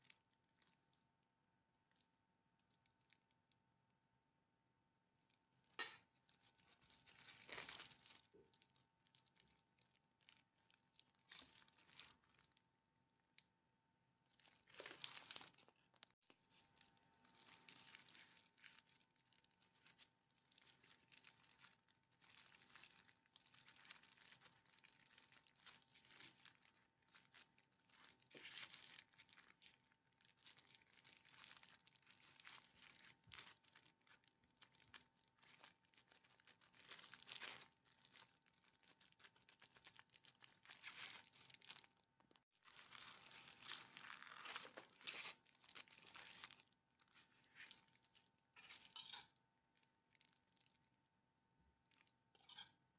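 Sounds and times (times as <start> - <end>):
plastic gloves crinkling: 0.0 - 1.2, 5.1 - 52.9.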